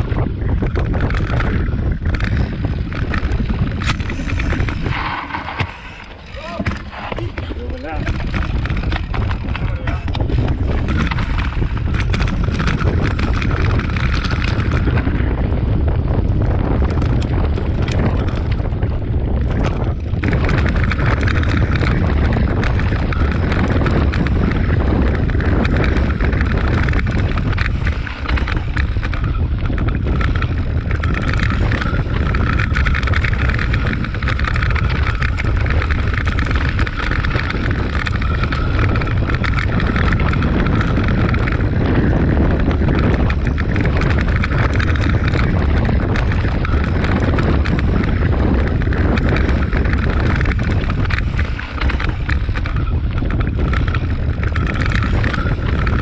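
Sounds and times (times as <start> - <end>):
bike rattling: 0.0 - 56.0
tyres rolling over loose stones: 0.0 - 56.0
wind noise on microphone: 0.0 - 56.0.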